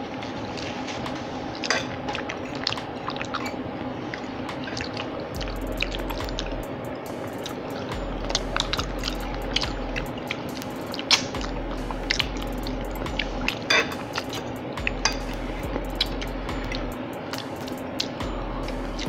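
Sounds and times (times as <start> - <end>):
chewing and mouth sounds: 0.1 - 6.6, 7.4 - 19.0.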